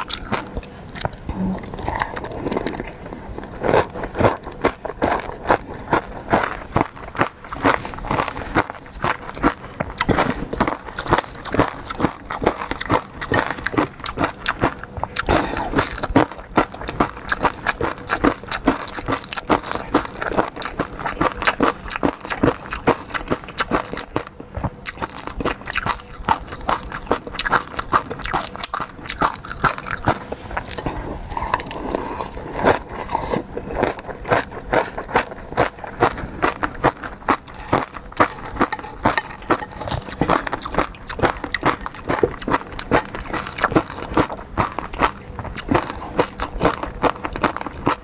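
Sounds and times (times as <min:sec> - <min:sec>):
seafood being bitten and chewed: 0:00.0 - 0:48.0.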